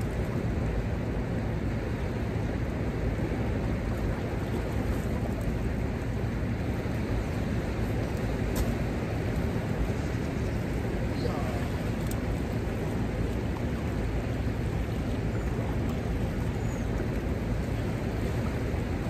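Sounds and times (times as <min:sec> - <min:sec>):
churning river water rushing: 0:00.0 - 0:19.0.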